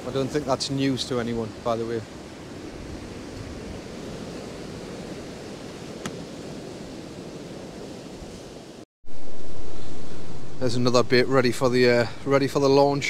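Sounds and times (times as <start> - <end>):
surf breaking on beach: 0.0 - 12.6.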